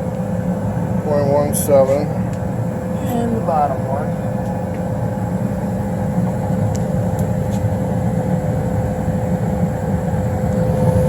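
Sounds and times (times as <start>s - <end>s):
furnace blower humming: 0.0s - 11.0s.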